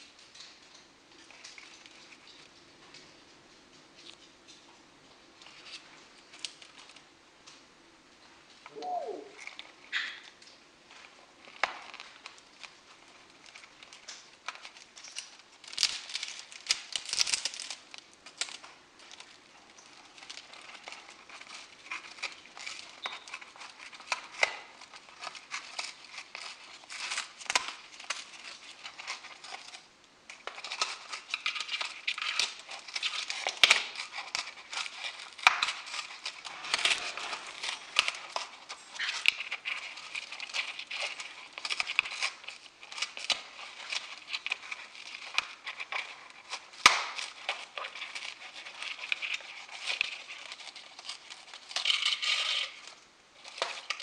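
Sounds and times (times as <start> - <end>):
crinkling and crackling with snaps: 0.0 - 54.0
parrot chewing cardboard toy: 0.4 - 3.0, 5.4 - 7.1, 9.4 - 54.0.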